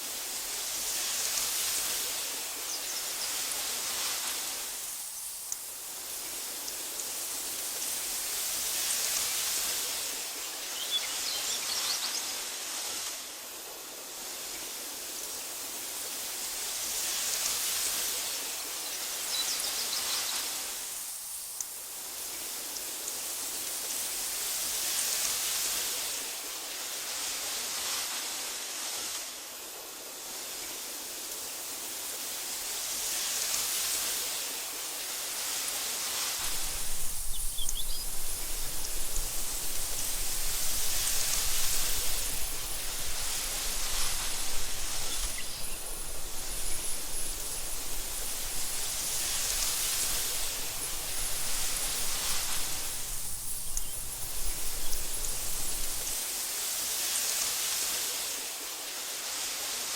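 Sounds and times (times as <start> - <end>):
wind blowing through grass: 0.0 - 59.9.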